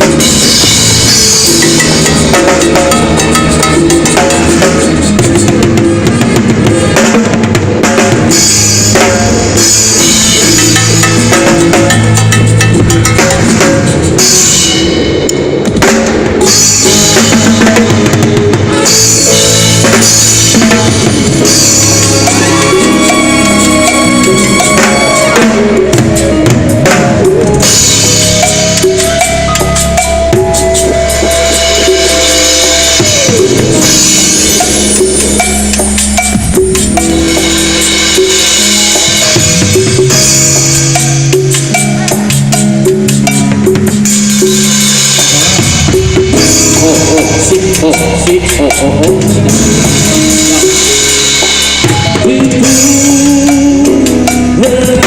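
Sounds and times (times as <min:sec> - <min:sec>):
sustained pitched notes: 0:00.0 - 0:55.0
timbales and drums groove: 0:00.0 - 0:55.0.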